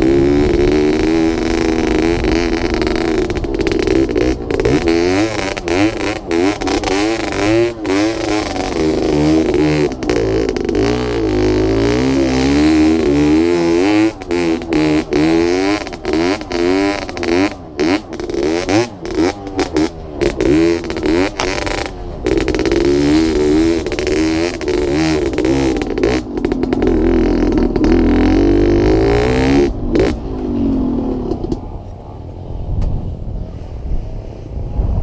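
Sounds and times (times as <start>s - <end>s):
two-stroke motorcycle engine revving: 0.0s - 31.8s.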